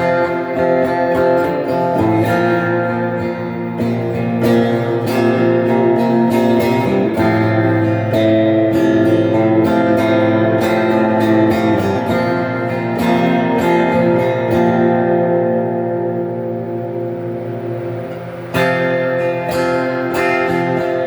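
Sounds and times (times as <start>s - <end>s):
electric guitar strumming chords: 0.0s - 21.0s.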